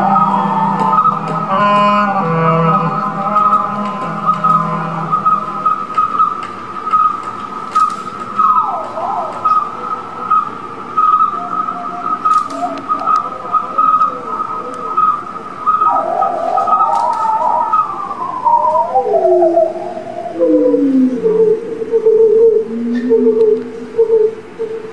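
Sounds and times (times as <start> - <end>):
sliding whistle-like tones: 0.0 - 20.6
pulsing high electronic tone: 0.0 - 24.9.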